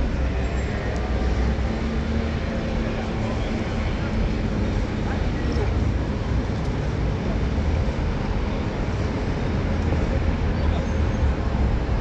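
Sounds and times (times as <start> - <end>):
low rumble of passing traffic: 0.0 - 12.0.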